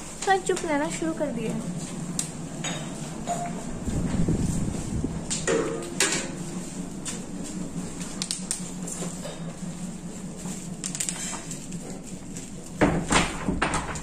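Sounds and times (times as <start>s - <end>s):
low hum: 0.0s - 13.8s.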